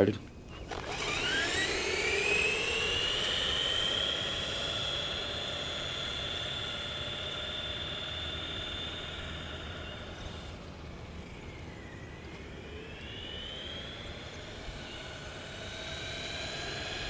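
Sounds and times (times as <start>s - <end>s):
electric rc truck motor whining: 0.4s - 17.0s.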